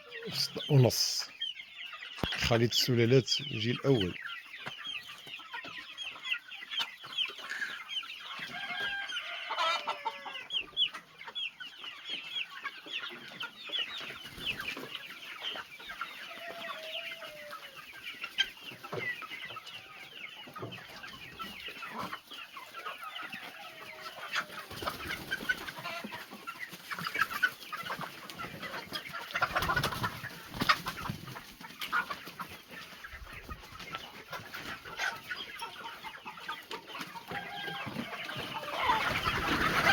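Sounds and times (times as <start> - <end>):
chickens cheeping and clucking: 0.0 - 39.9
low drawn-out chicken calls: 3.4 - 39.9.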